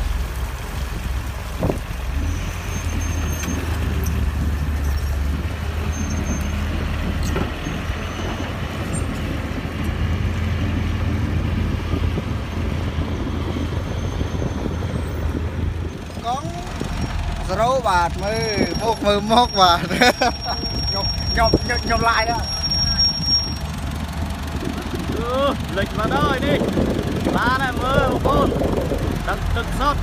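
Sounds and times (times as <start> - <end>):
diesel truck engine straining: 0.0 - 30.0.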